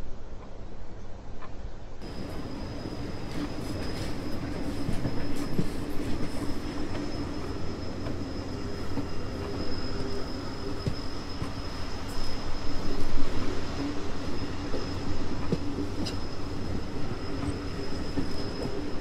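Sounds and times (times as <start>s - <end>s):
train low rumble: 0.0s - 19.0s
faint high whine: 2.0s - 19.0s.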